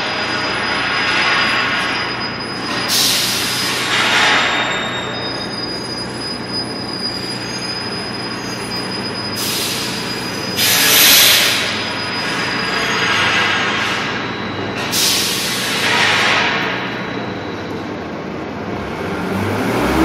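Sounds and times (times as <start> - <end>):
high-pitched squeal: 0.0 - 17.9.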